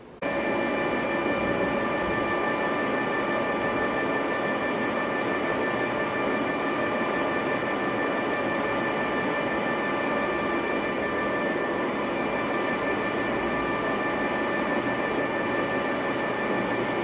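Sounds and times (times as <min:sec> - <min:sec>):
steady high whine: 0:00.0 - 0:17.0
lathe running: 0:00.2 - 0:17.0.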